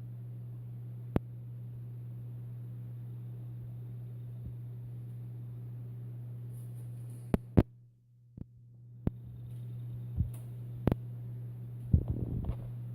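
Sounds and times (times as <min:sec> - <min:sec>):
desktop computer hum: 0:00.0 - 0:12.9.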